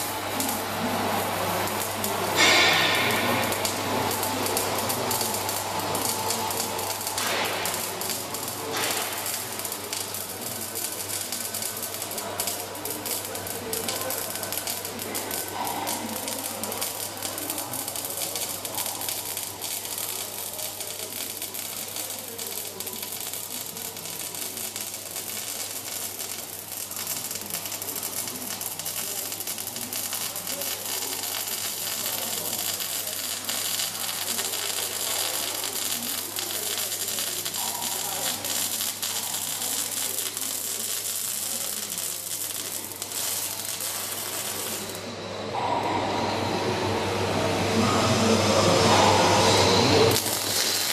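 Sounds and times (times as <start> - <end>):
welding arc crackling: 0.0 - 45.1, 48.8 - 50.9.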